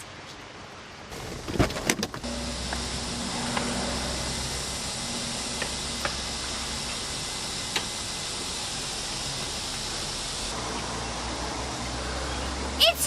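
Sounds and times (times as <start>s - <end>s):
steady hissing: 1.1s - 12.9s.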